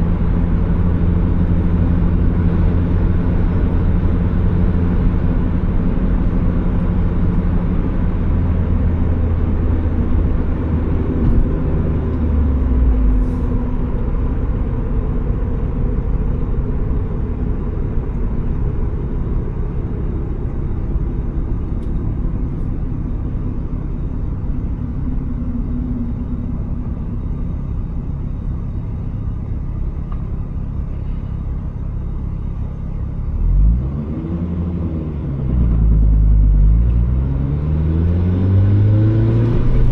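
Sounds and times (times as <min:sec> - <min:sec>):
car engine while driving: 0:00.0 - 0:39.9
road rumble: 0:00.0 - 0:39.9.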